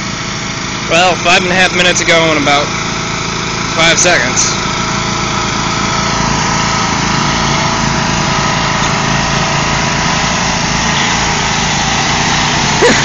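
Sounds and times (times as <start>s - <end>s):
riding lawn mower engines straining: 0.0s - 13.0s.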